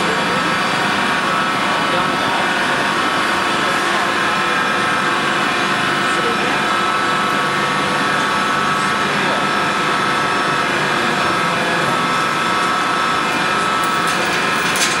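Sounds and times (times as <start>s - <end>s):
hydraulic power unit whine: 0.0s - 15.0s.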